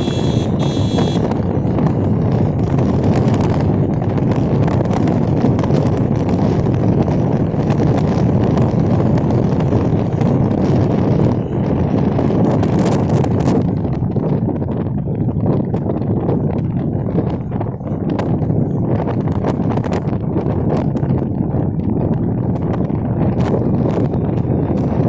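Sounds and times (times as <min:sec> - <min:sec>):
vehicle driving rumble: 0:00.0 - 0:25.0
wind buffeting microphone: 0:00.0 - 0:25.0.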